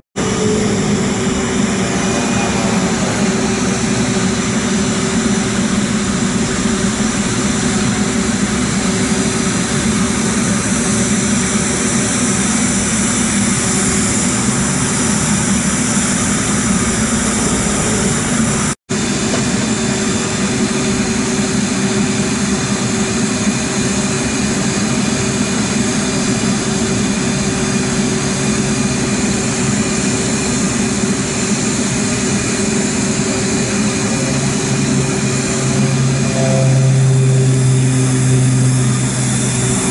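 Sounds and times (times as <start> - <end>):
aircraft engines droning: 0.2 - 39.9
high turbine whine: 0.2 - 39.9.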